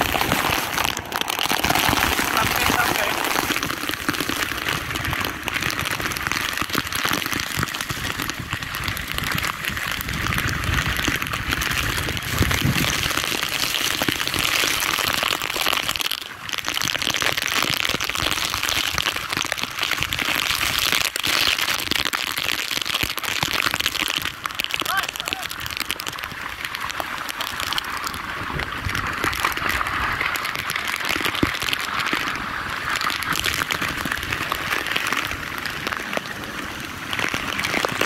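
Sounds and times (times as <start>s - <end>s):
wind rumbling on microphone: 0.0s - 21.1s, 24.2s - 38.0s
heavy rain pelting: 0.0s - 38.0s.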